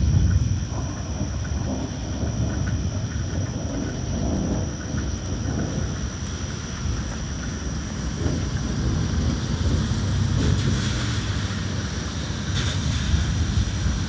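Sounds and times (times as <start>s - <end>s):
low rumble of thunder: 0.0s - 14.0s
rain falling: 0.0s - 14.0s.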